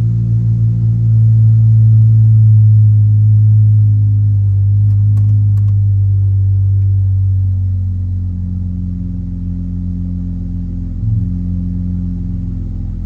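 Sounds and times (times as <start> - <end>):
deep bass notes through car speakers: 0.0 - 13.0.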